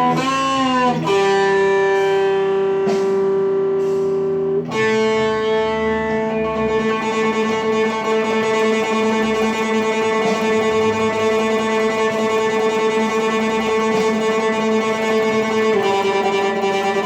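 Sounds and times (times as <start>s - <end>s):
guitar playing sustained notes: 0.0s - 17.0s.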